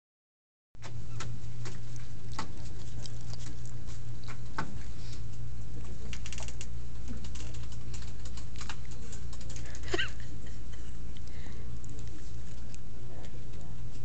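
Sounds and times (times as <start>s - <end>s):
steady low hum: 0.8s - 14.0s.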